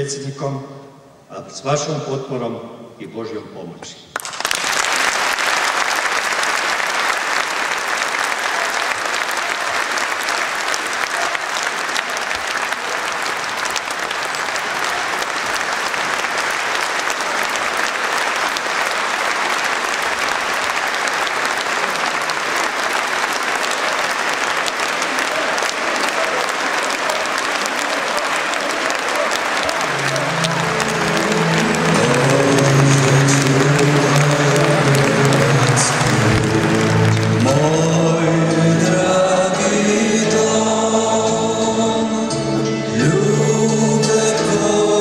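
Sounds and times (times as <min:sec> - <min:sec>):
large audience applauding: 0:04.2 - 0:40.9.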